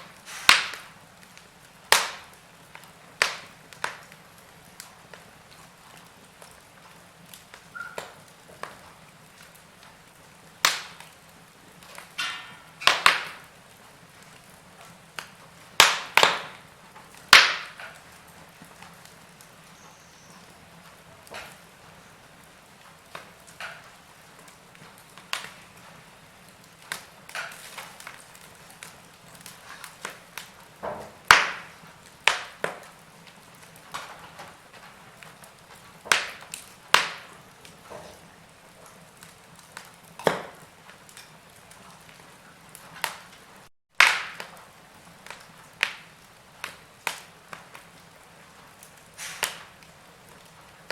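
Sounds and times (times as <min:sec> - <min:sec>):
sharp pops and snaps of fire: 0:00.0 - 0:50.9
wood fire crackling: 0:00.0 - 0:50.9.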